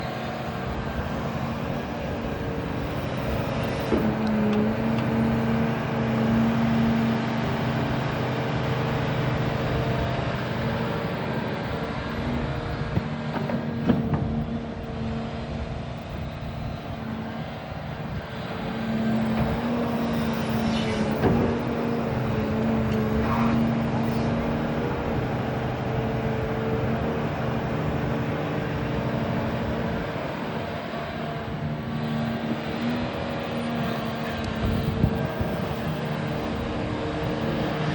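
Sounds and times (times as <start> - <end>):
excavator diesel engine under load: 0.0 - 37.9.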